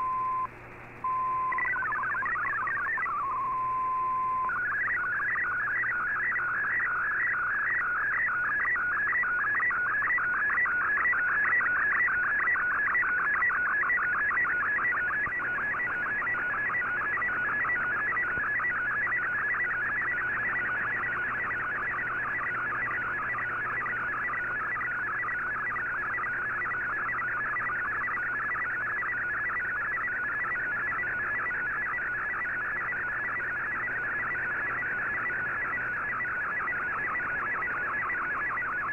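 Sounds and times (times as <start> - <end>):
warbling data tone: 1.1 - 38.9.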